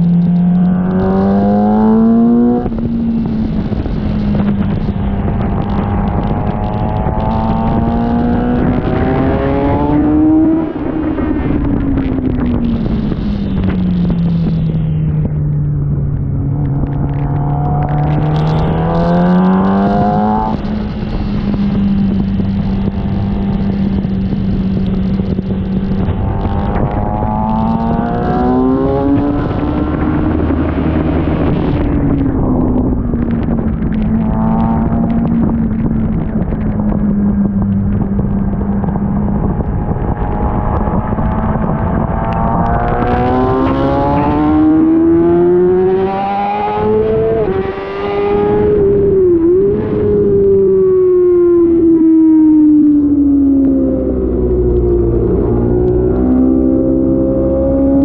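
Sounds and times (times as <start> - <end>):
motorcycle engine revving: 0.0 - 58.0
steady rushing noise: 0.0 - 58.0.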